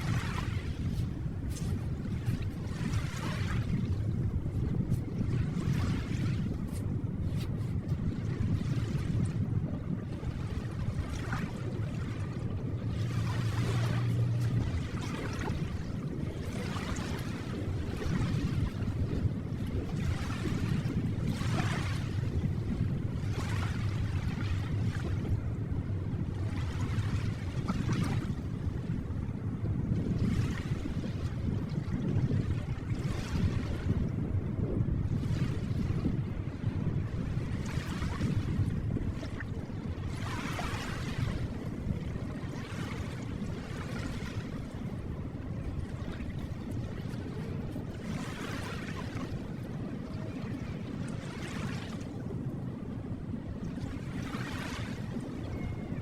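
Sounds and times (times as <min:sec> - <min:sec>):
ocean waves washing onto shore: 0:00.0 - 0:56.0
surf rumbling: 0:00.0 - 0:56.0.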